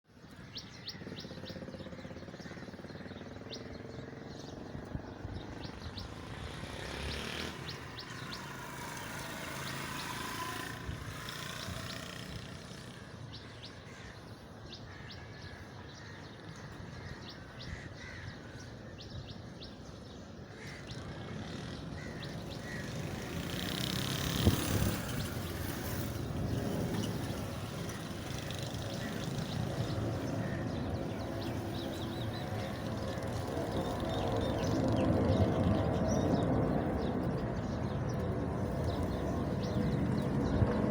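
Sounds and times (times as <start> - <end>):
birds chirping: 0.1 - 40.9
engine hum: 0.1 - 40.9.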